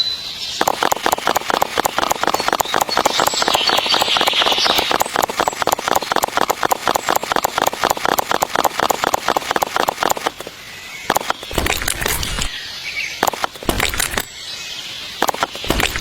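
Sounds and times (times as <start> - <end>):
small motor ticking: 0.6 - 10.5, 11.1 - 12.6, 13.2 - 14.3, 15.2 - 16.0.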